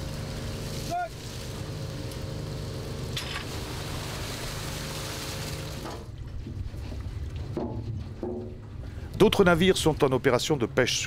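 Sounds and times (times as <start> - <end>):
water streaming and splashing: 0.0 - 10.2
boat engine humming: 0.0 - 11.0.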